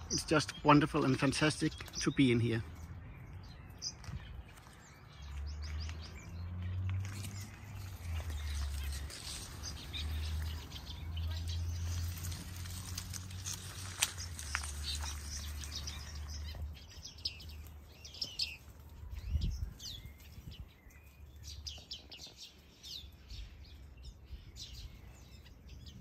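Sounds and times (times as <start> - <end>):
small birds chirping and twittering: 0.0 - 26.0.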